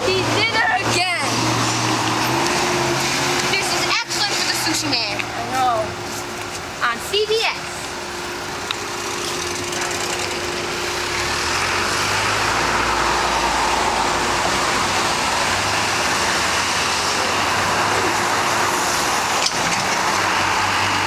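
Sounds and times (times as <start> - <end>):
cars driving past: 0.0 - 21.0.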